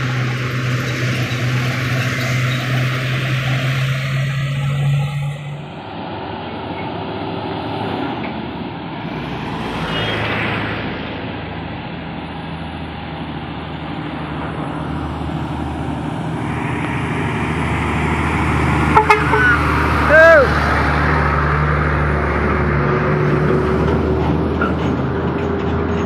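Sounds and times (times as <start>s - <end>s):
passing car: 0.0s - 26.0s
truck diesel engine running: 0.0s - 26.0s.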